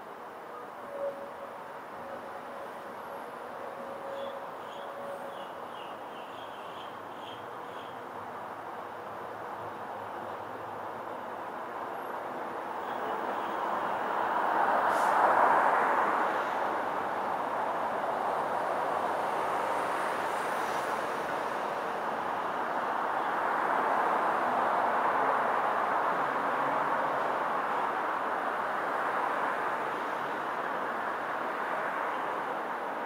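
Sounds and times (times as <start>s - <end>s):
road traffic rushing: 0.0s - 33.0s.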